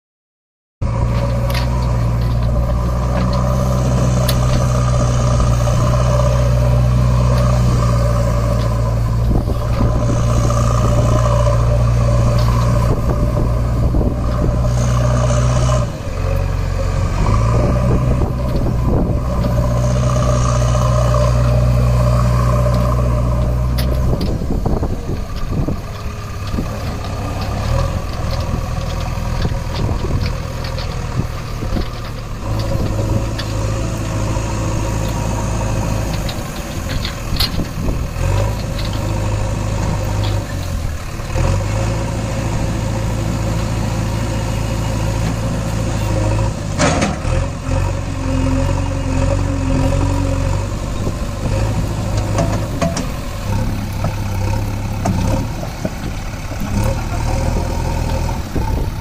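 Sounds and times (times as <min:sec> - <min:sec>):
heavy vehicle engine idling: 0:00.8 - 0:59.0.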